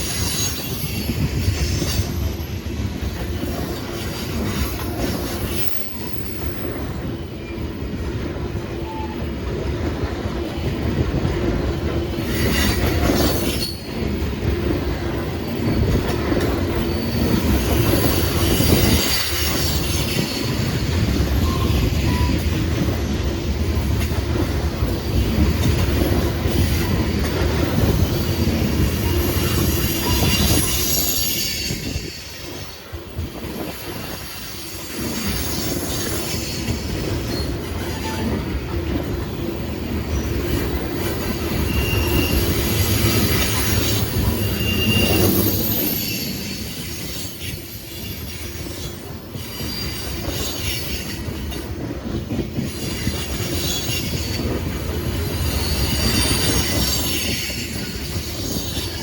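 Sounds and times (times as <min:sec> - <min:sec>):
freight train cars rolling: 0:00.0 - 0:59.0
steel wheels squealing on rail: 0:00.0 - 0:59.0.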